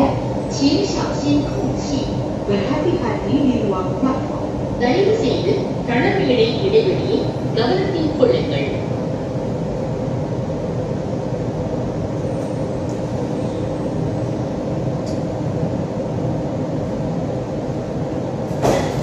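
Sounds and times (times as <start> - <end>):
metro train hum and rumble: 0.0 - 19.0.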